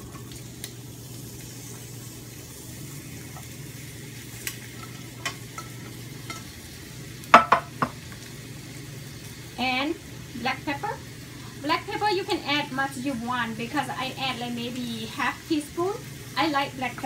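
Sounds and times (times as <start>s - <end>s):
egg sizzling in a frying pan: 0.0s - 17.0s.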